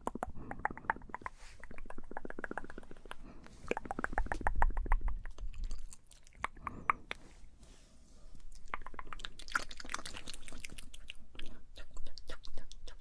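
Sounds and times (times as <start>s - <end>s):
wet tongue and lip clicks: 0.0s - 7.2s, 8.4s - 13.0s.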